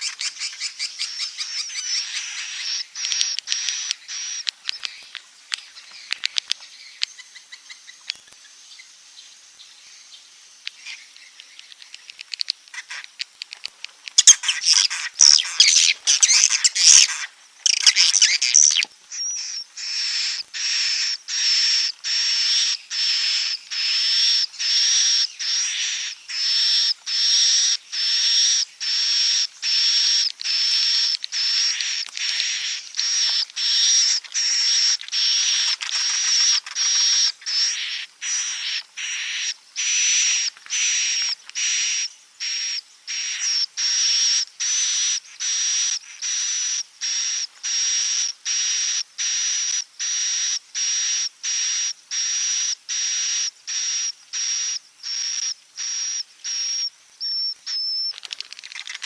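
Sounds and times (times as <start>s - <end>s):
swiftlet clicking and chirping: 0.0s - 8.5s, 10.6s - 47.9s, 50.8s - 59.0s
high bird calls: 0.0s - 49.4s, 50.0s - 59.0s.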